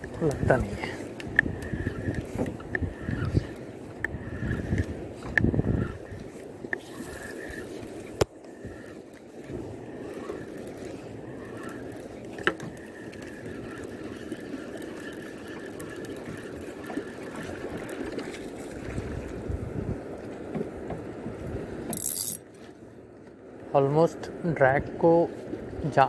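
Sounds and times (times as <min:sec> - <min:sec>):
wind and water rushing: 0:00.0 - 0:26.0.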